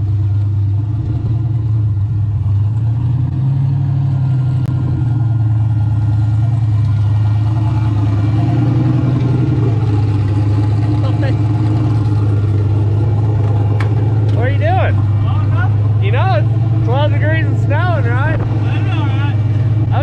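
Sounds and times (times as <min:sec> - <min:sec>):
pickup truck engine idling: 0:00.0 - 0:20.0.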